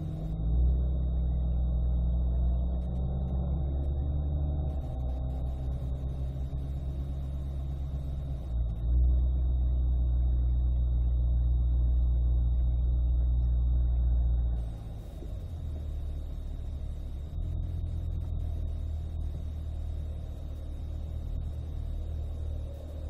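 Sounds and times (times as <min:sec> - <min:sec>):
car engine idling rumble: 0:00.0 - 0:23.0.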